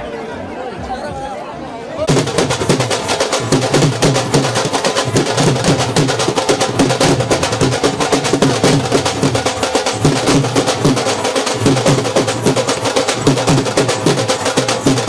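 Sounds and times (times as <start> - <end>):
barrel drums beaten fast: 2.1 - 15.0.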